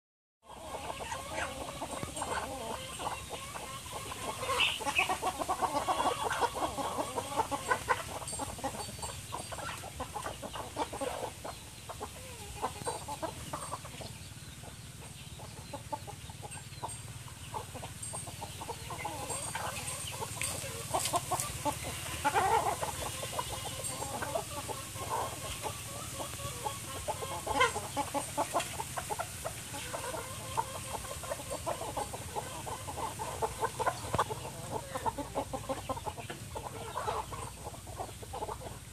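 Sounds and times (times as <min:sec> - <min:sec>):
chickens clucking: 0:00.4 - 0:38.9.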